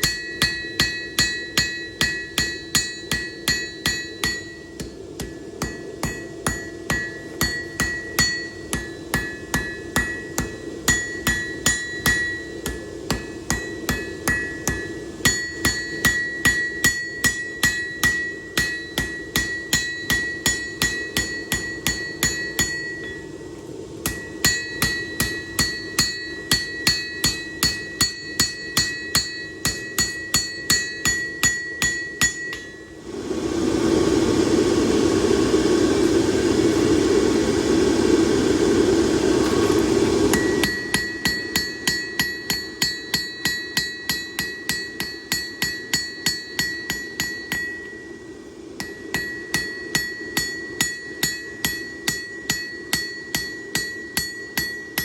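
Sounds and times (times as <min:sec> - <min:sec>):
anvil ringing: 0:00.0 - 0:23.3, 0:24.0 - 0:32.9, 0:40.3 - 0:48.1, 0:48.8 - 0:55.0
hammer striking anvil: 0:00.0 - 0:23.3, 0:24.0 - 0:32.8, 0:40.3 - 0:48.0, 0:48.8 - 0:55.0
low hum: 0:00.0 - 0:55.0.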